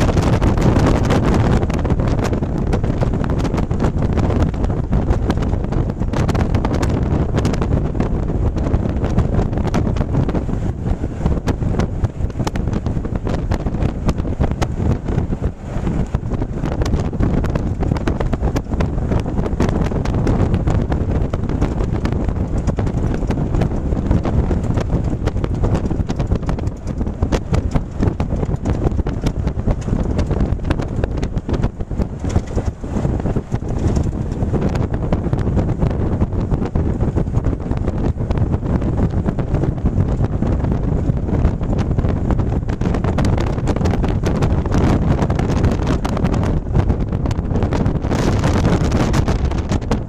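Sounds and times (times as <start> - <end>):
road and engine rumble: 0.0 - 50.0
wind buffeting microphone: 0.0 - 50.0.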